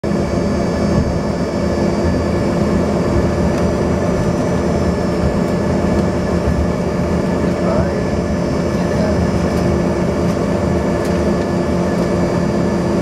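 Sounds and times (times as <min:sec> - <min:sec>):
jet engines whining and rumbling: 0:00.0 - 0:13.0.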